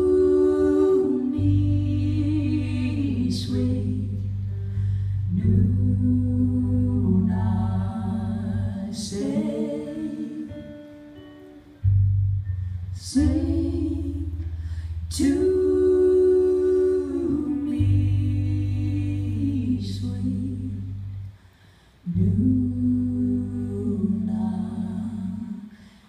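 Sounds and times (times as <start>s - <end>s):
two women singing: 0.0s - 11.3s, 13.0s - 21.3s, 22.0s - 26.0s
low steady tone: 0.0s - 25.8s
acoustic guitar: 0.0s - 26.0s.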